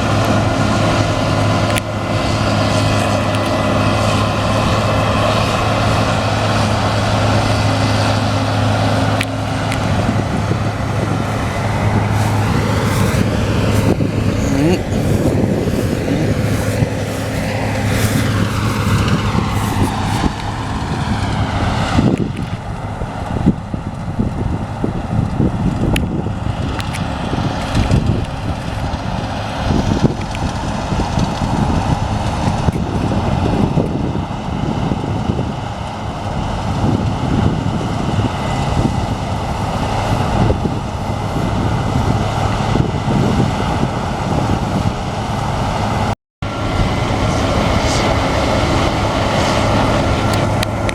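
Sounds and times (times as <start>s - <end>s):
diesel farm machinery running: 0.0s - 50.9s
wind on microphone: 0.0s - 50.9s.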